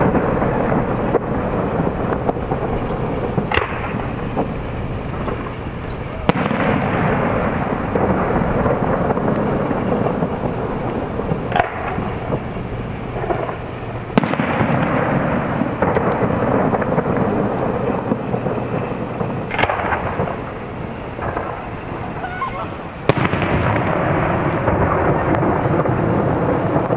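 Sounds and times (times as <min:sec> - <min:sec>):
fireworks booming and crackling: 0:00.0 - 0:26.9.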